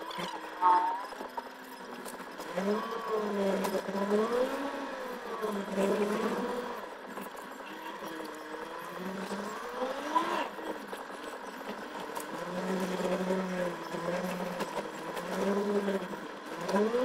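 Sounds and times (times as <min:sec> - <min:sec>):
car engine driving: 0:00.0 - 0:17.0.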